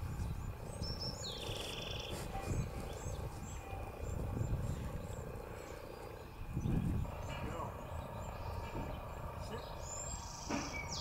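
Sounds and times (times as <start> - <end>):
low rumbling noise: 0.0 - 11.0
small birds chirping: 0.0 - 11.0
buzzy bird trill: 0.2 - 11.0.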